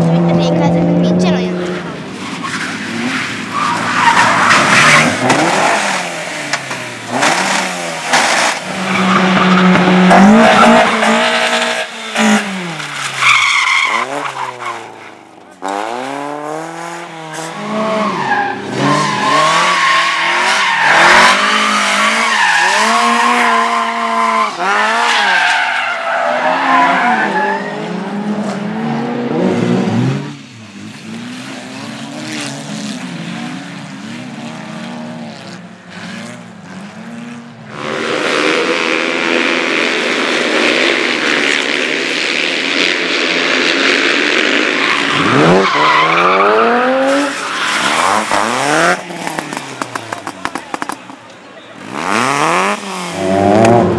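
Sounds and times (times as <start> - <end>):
race car engine revving: 0.0 - 51.2, 51.8 - 53.9
tyres skidding: 0.0 - 53.9.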